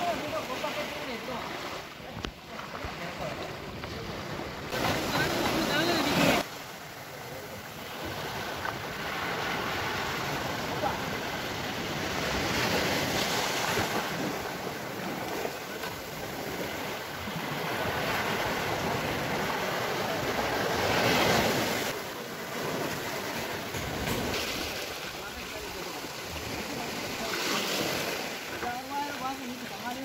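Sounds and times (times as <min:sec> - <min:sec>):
waves washing onto beach: 0:00.0 - 0:30.0.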